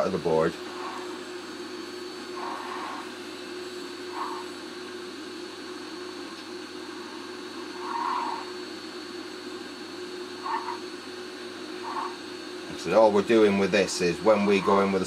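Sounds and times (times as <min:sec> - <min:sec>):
hot-air blower fan hum: 0:00.0 - 0:15.0.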